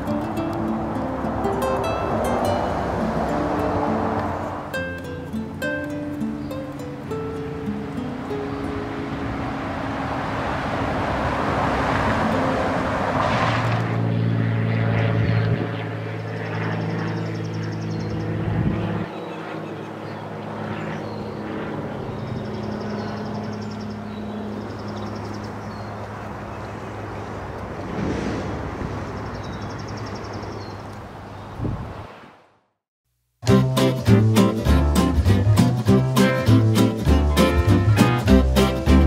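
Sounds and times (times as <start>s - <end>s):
propeller airplane passing overhead: 0.0s - 32.4s, 33.4s - 39.0s.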